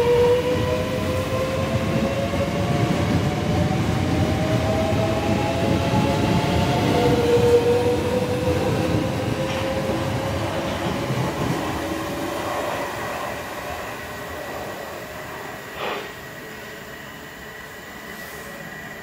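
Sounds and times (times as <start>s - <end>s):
train wheel rumble: 0.0s - 16.6s.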